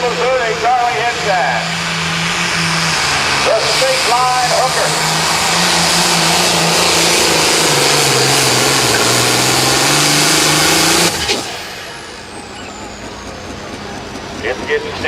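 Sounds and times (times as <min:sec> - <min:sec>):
diesel tractor engine under load: 0:00.0 - 0:15.0
high whine: 0:00.0 - 0:15.0.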